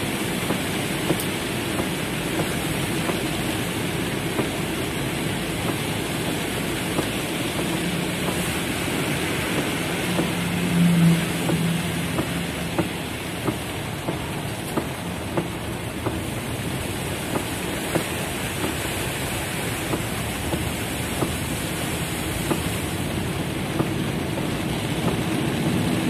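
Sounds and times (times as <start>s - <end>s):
heavy rain on car roof: 0.0s - 26.0s.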